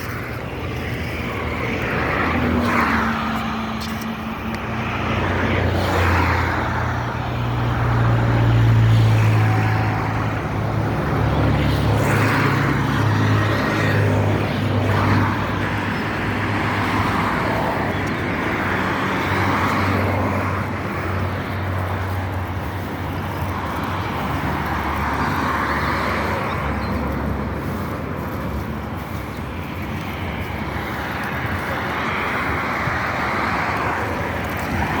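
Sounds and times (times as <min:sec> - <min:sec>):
vehicles passing: 0:00.0 - 0:35.0.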